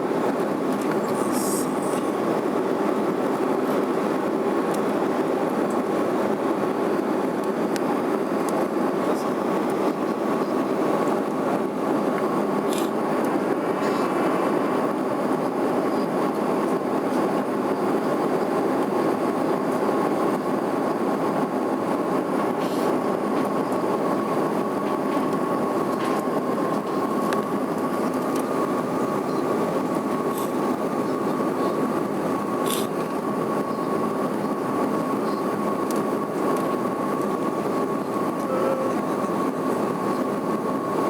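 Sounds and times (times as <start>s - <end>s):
airliner cabin drone: 0.0s - 41.0s
constant high hum: 0.0s - 41.0s.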